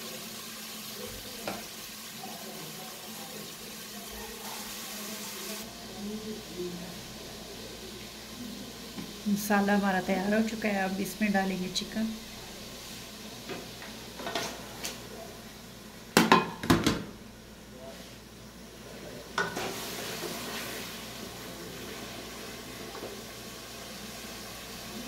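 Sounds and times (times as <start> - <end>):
chicken sizzling: 0.0 - 25.0.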